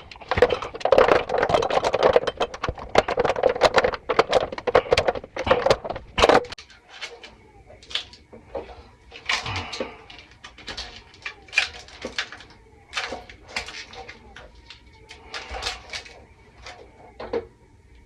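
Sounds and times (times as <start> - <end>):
handling clicks and rustles: 0.0 - 18.0.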